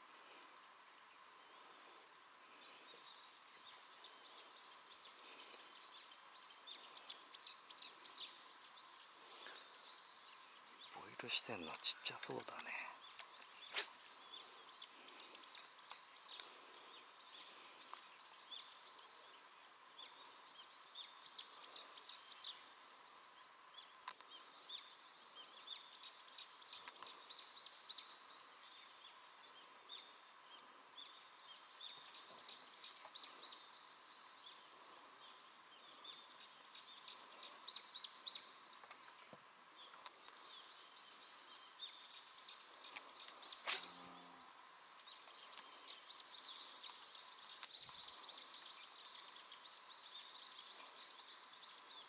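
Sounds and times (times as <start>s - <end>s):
birds chirping and trilling: 0.0s - 52.0s.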